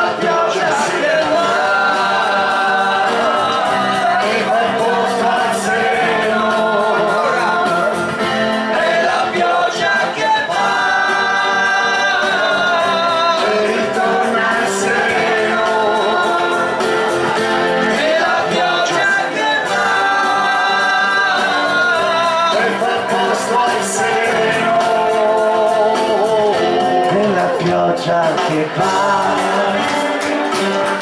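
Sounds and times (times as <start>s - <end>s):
group singing into microphones: 0.0s - 31.0s
instrumental backing: 0.0s - 31.0s.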